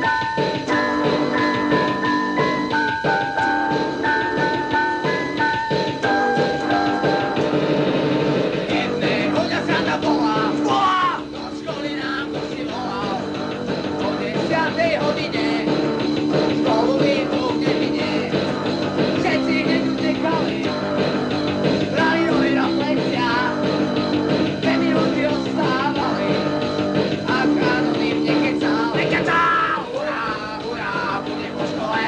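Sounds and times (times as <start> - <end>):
person singing: 0.0 - 7.8, 8.6 - 32.0
lo-fi punk rock song: 0.0 - 32.0.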